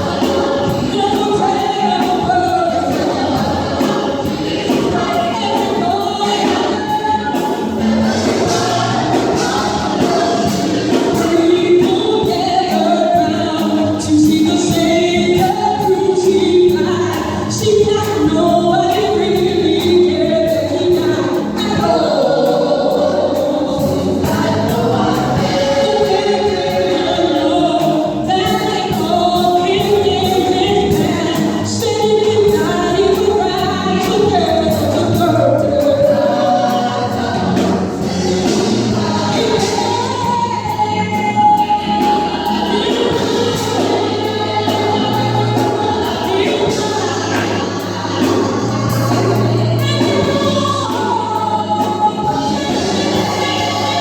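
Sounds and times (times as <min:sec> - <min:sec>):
gospel choir singing: 0:00.0 - 0:54.0.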